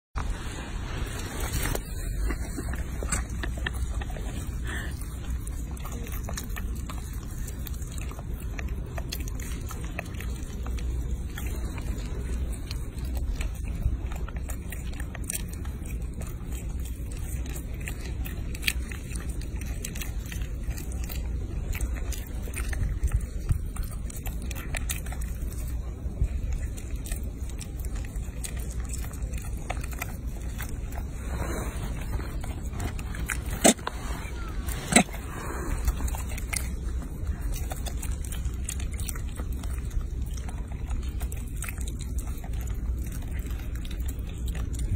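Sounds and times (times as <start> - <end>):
steady low rumble: 0.0 - 44.9
monkeys chewing food: 0.2 - 44.9.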